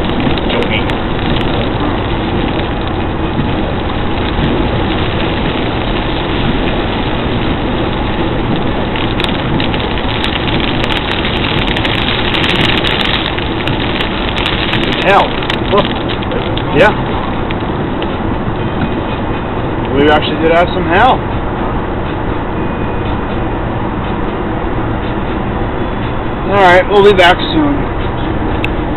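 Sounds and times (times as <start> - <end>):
car road and engine noise: 0.0 - 28.9
rain beating on a car: 0.0 - 28.9
raindrops ticking on car body: 0.0 - 28.9.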